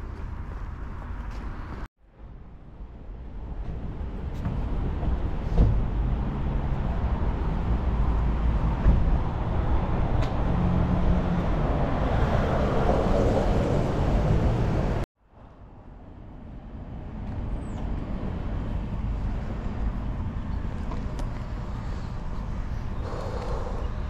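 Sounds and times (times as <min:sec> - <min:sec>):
road traffic rushing: 0:00.0 - 0:24.0.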